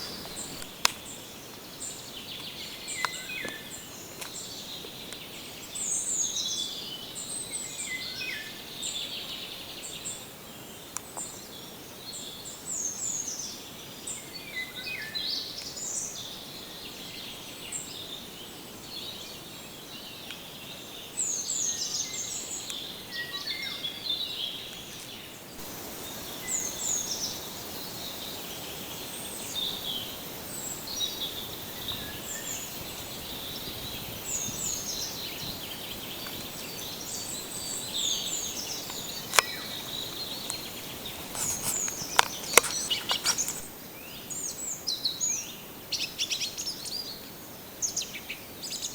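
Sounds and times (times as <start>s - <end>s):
songbirds singing and calling: 0.0s - 48.9s
steady background hiss: 0.0s - 48.9s.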